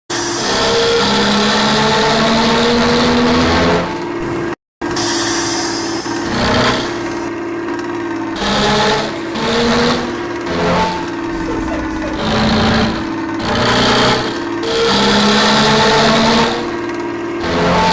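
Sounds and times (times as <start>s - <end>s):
engine revving through loud exhaust: 0.3s - 4.0s, 6.0s - 7.3s, 8.3s - 17.9s.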